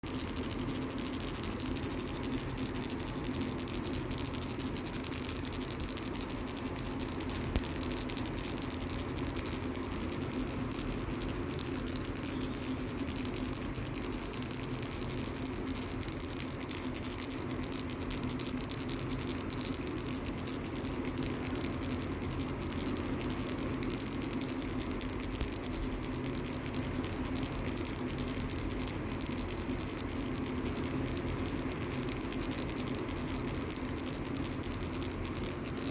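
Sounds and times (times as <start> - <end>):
rattle toy shaking: 0.0 - 35.9.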